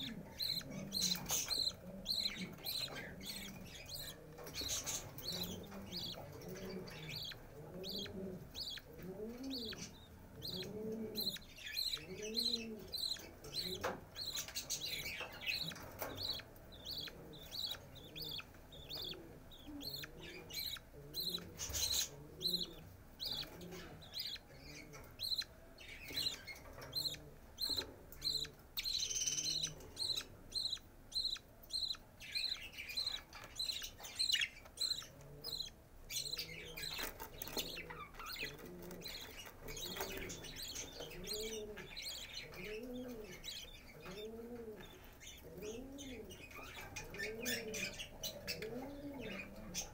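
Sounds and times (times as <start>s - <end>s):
bird chicks cheeping: 0.0s - 49.9s.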